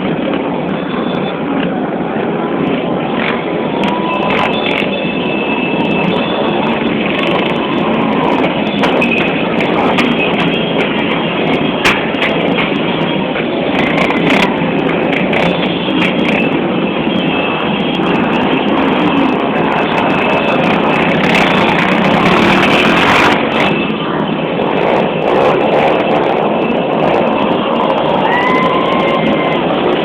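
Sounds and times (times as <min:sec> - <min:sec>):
motorcycles rumbling: 0:00.0 - 0:30.0.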